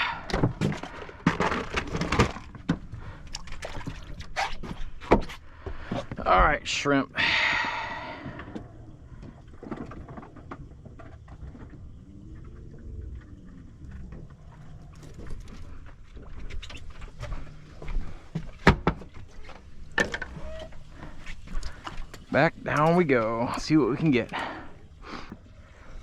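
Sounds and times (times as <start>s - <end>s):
boat engine rumble: 0.0s - 26.0s.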